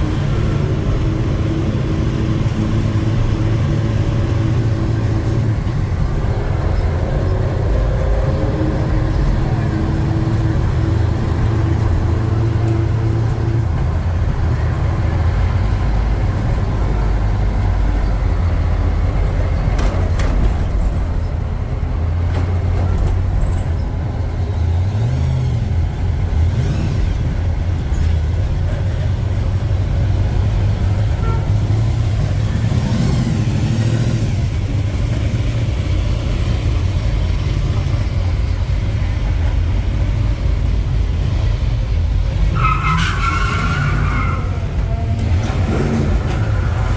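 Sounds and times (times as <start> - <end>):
bus engine running: 0.0 - 42.7, 43.7 - 46.9
road noise: 0.0 - 46.9.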